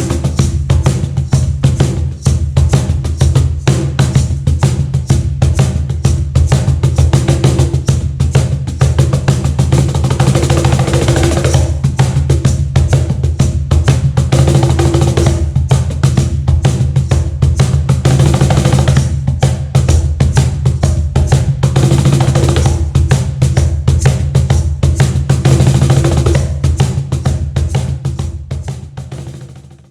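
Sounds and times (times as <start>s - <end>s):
cajon played by hand: 0.0s - 29.9s.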